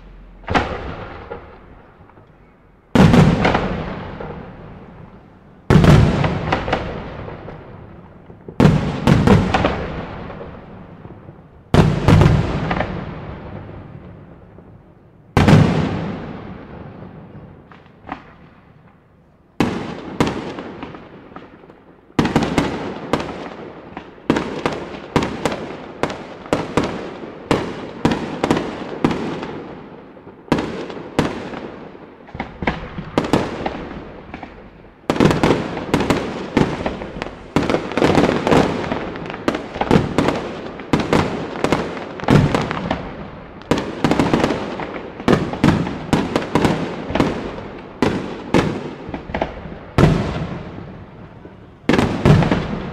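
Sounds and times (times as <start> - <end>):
fireworks bursting: 0.0 - 19.0, 19.6 - 52.9.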